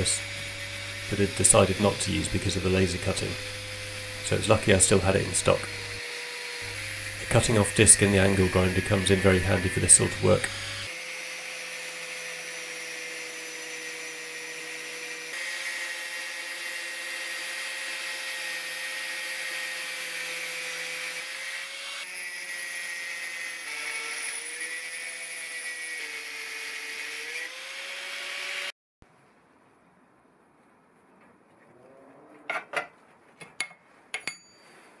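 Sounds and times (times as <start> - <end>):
angle grinder cutting steel: 0.0 - 28.7.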